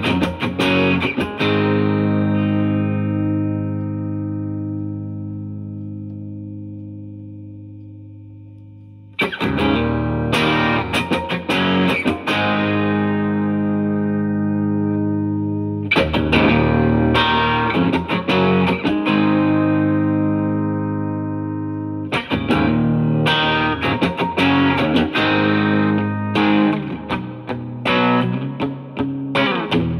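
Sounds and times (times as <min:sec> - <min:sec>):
electric guitar strummed chords: 0:00.0 - 0:29.9.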